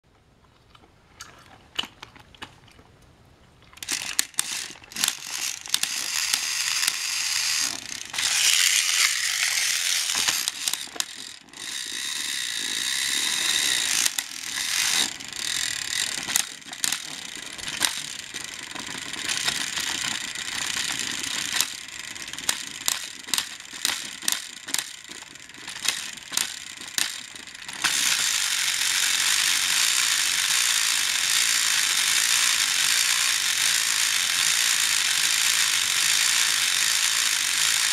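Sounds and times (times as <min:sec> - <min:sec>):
toy motors whirring and grinding: 0:03.8 - 0:37.9.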